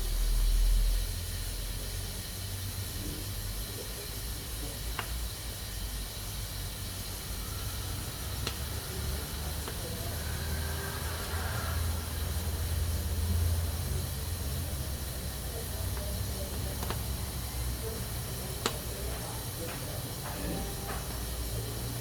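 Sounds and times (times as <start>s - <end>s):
pressure cooker hissing: 0.0s - 22.0s.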